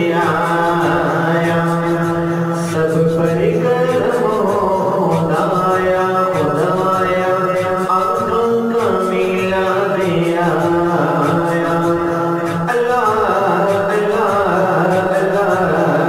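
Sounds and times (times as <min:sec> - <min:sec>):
chanted vocal melody: 0:00.0 - 0:16.0
soft regular beat: 0:00.0 - 0:16.0.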